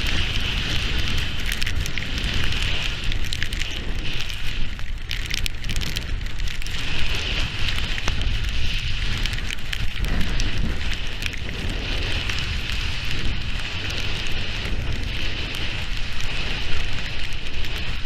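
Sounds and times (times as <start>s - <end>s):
rain pattering on camera housing: 0.0s - 18.0s
wind buffeting microphone: 0.0s - 18.0s.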